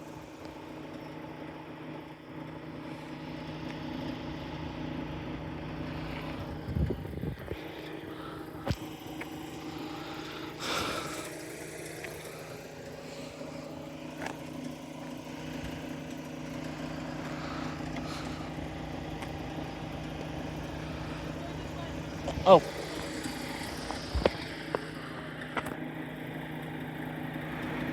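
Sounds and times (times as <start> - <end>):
engine idling: 0.0 - 27.9.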